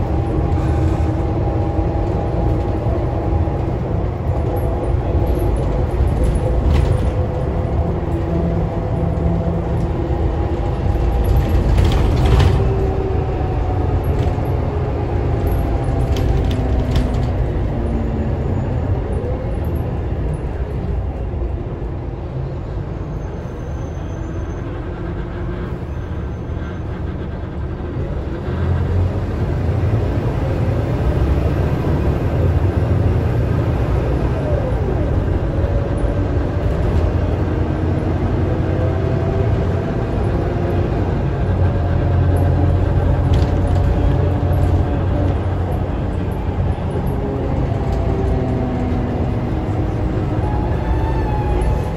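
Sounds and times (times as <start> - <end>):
bus body rattling: 0.0 - 51.9
bus engine and driveline running: 0.0 - 51.9.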